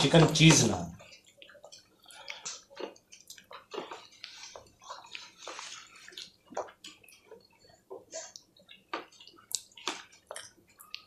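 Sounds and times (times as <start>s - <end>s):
chewing mouth sounds: 1.0s - 11.0s.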